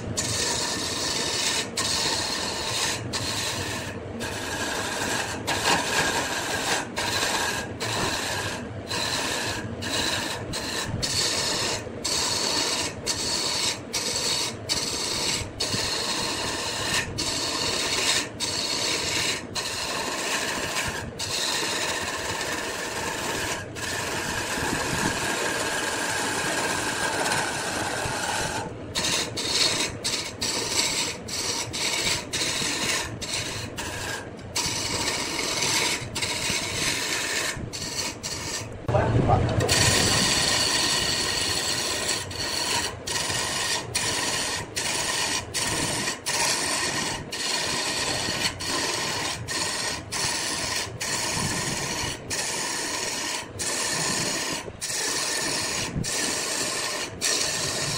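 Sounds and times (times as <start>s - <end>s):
wood lathe tool rasping wood: 0.0s - 57.9s.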